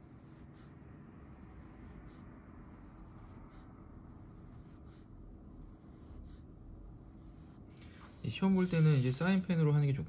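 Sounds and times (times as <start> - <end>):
pencil scratching across paper: 0.0 - 5.1, 5.7 - 9.8.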